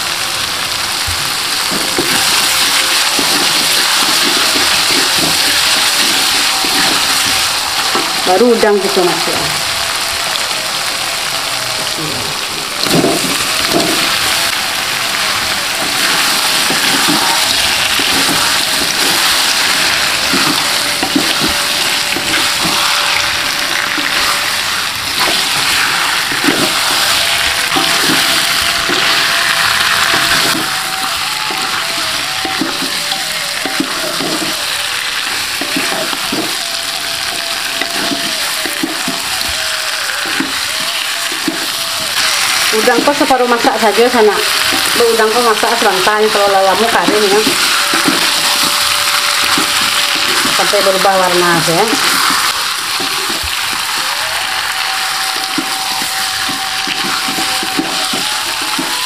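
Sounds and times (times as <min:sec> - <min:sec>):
shrimp sizzling in a wok: 0:00.0 - 0:59.0
wooden spatula scraping wok: 0:01.5 - 0:09.3, 0:12.8 - 0:59.0.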